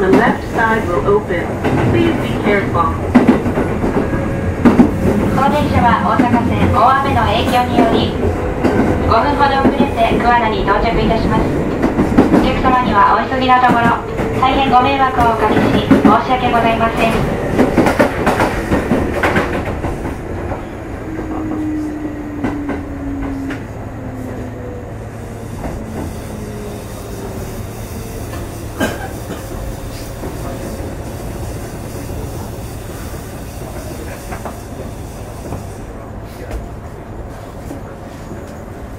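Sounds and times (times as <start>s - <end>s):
train low hum: 0.0s - 38.9s.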